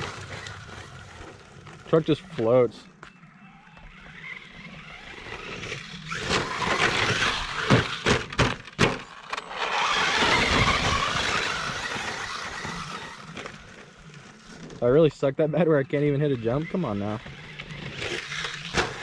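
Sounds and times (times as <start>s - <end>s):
rc truck driving over gravel: 0.0s - 19.0s.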